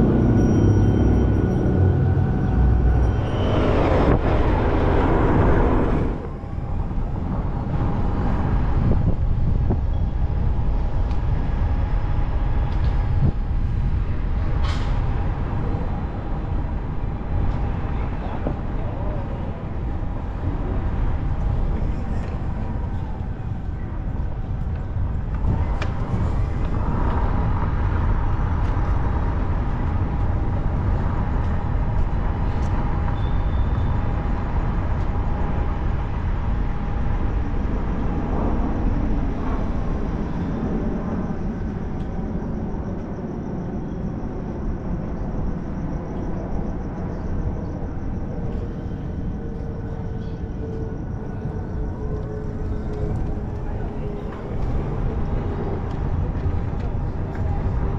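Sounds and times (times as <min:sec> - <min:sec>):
car engine and road noise: 0:00.0 - 0:43.3, 0:46.7 - 0:57.9.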